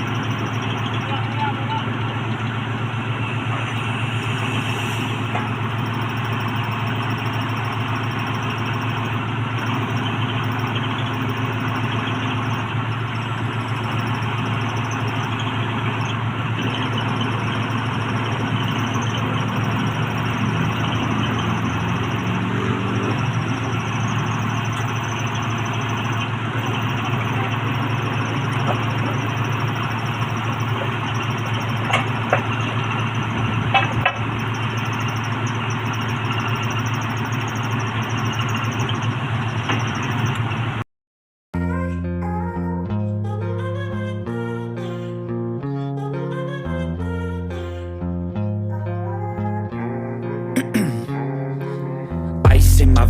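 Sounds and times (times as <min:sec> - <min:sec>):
drilling rig engine drone: 0:00.0 - 0:40.8, 0:49.7 - 0:53.0.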